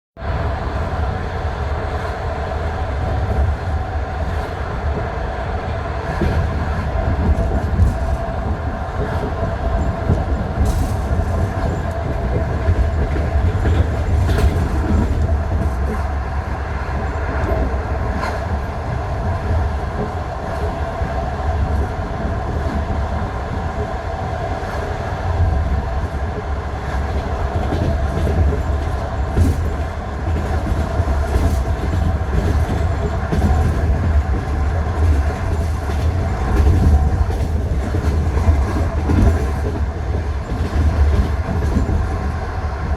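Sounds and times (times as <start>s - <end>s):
train low rumble and hum: 0.2s - 42.9s
train wheels clickety-clack: 5.9s - 42.9s.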